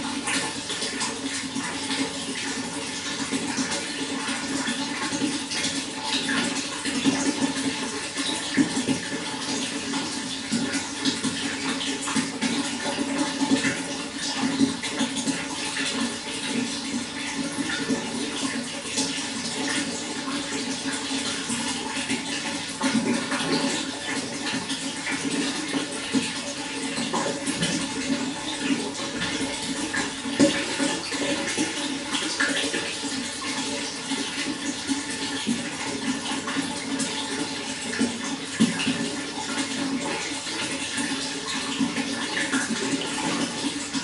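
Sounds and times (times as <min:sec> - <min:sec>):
running water splashing: 0:00.0 - 0:44.0.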